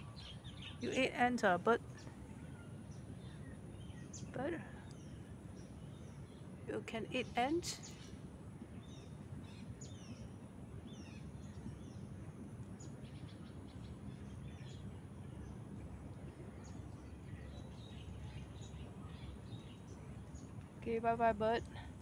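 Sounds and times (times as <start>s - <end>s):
birds chirping: 0.0s - 8.2s, 8.8s - 22.0s
low background rumble: 0.0s - 22.0s.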